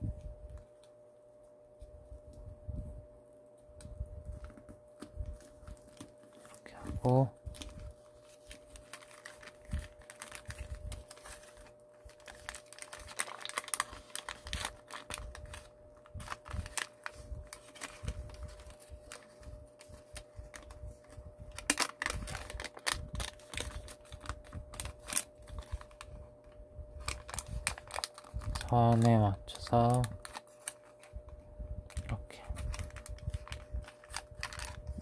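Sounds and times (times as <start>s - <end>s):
paper being folded and creased: 5.4s - 26.2s, 27.0s - 31.2s, 31.9s - 35.0s.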